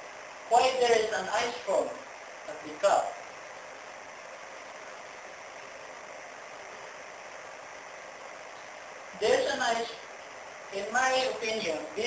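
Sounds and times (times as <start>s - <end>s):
room tone hiss: 0.0s - 12.0s.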